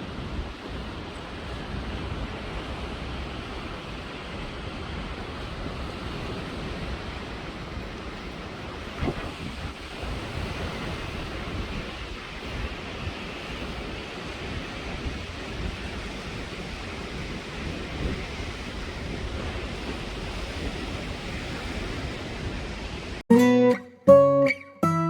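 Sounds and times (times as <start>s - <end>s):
wind buffeting microphone: 0.0s - 23.2s.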